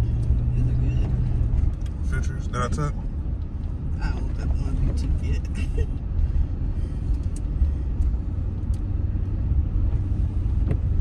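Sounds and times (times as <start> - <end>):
vehicle cab low rumble: 0.0 - 11.0.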